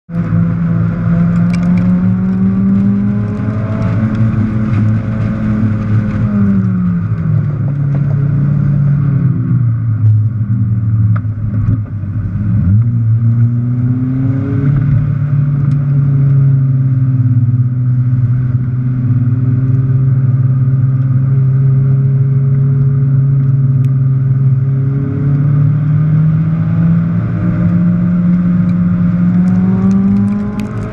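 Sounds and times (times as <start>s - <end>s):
car engine running hard: 0.1s - 30.9s
road and wind noise: 0.1s - 30.9s.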